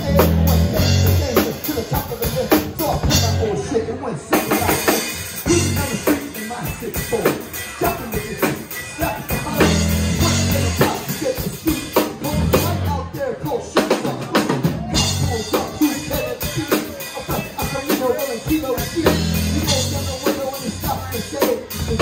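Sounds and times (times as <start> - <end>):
drum kit: 0.0 - 3.6, 4.3 - 22.0
bass guitar: 0.0 - 22.0
person singing: 0.0 - 22.0.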